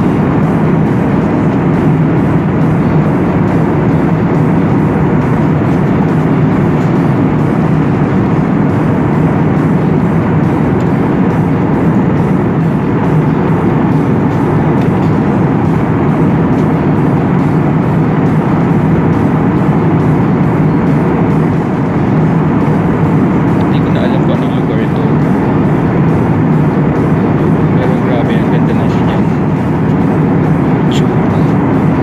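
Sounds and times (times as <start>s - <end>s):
jet airliner cabin noise: 0.0s - 32.0s.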